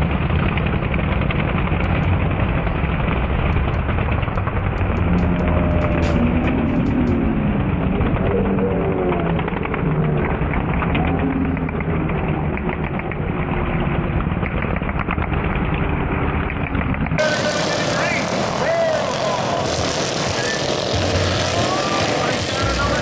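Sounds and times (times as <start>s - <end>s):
lawn mower engines running hard: 0.0s - 16.5s, 17.2s - 23.0s.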